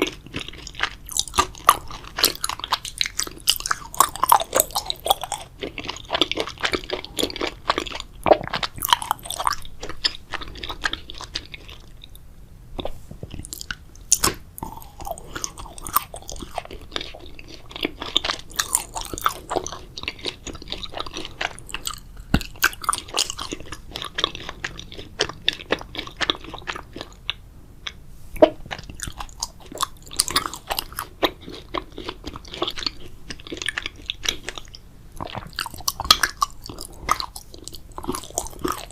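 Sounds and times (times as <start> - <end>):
wet chewing and smacking: 0.0 - 12.2, 12.8 - 38.9.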